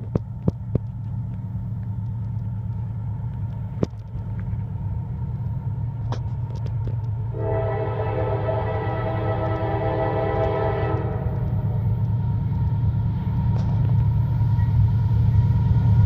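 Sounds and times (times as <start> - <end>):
diesel locomotive rumble: 0.0 - 16.0.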